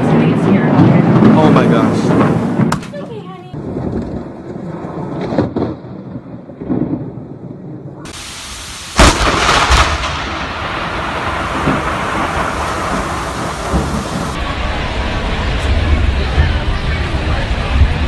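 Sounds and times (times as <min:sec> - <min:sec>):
thunder rumbling: 0:00.0 - 0:02.8, 0:03.5 - 0:18.0
thunder crack: 0:00.0 - 0:18.0
rain: 0:03.4 - 0:18.0.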